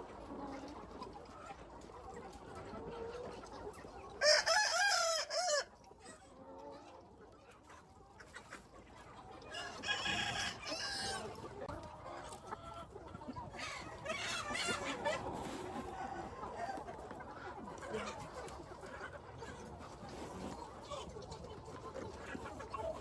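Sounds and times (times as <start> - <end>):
chickens calling: 0.0 - 23.0.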